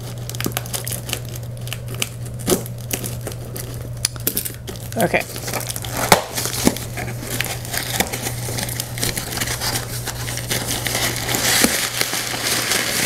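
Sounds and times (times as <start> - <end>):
packing tape crinkling: 0.0 - 13.0.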